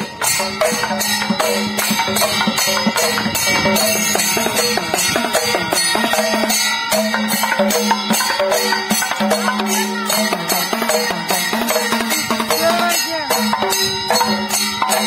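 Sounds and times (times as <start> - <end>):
drums beating: 0.0 - 15.0
hand cymbals: 0.0 - 15.0
wavering melody: 0.0 - 15.0.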